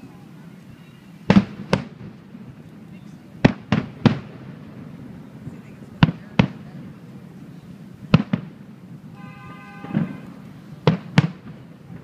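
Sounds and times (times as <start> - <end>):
fireworks bangs: 1.1 - 12.0.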